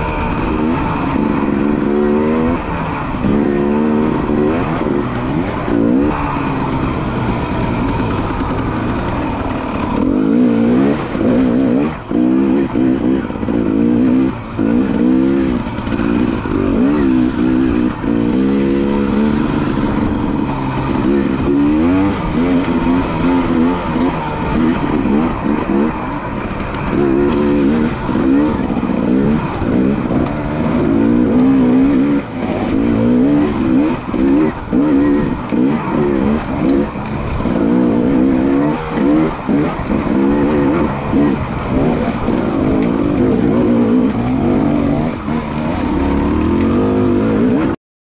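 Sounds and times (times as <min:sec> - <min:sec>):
dirt bike engine revving: 0:00.0 - 0:47.8.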